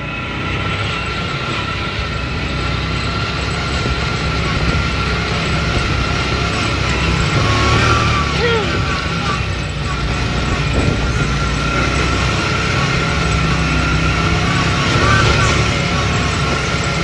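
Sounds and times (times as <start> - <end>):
buggy engine running: 0.0 - 17.0
high whine: 0.0 - 17.0.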